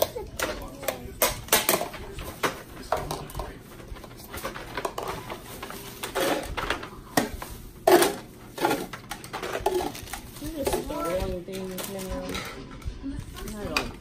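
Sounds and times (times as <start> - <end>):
plastic lids clicking and knocking: 0.0 - 5.3, 6.0 - 12.6
plastic bag rustling: 1.7 - 14.0.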